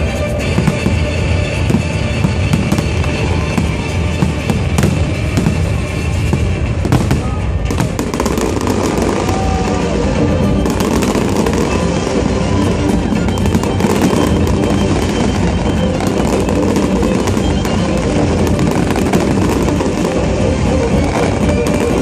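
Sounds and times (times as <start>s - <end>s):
fireworks crackling and banging: 0.0s - 22.0s
music playing: 0.0s - 22.0s.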